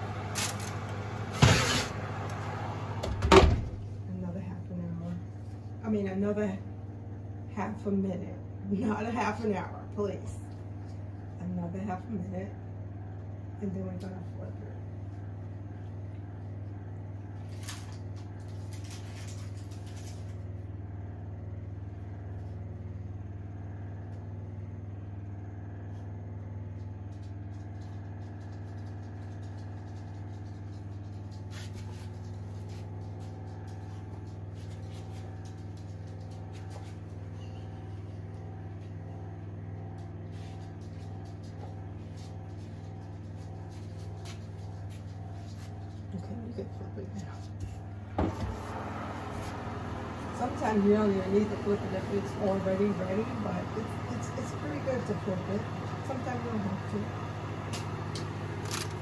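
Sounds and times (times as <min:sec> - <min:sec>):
electric oven hum: 0:00.0 - 0:59.0.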